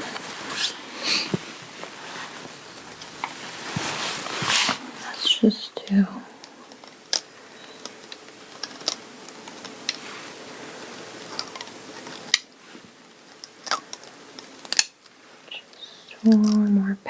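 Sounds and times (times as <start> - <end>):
lint roller rustling on fabric: 0.0 - 15.4.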